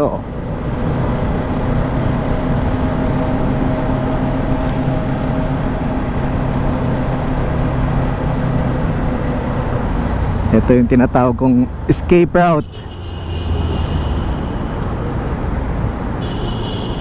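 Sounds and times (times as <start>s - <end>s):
motorcycle engine cruising: 0.0s - 16.3s.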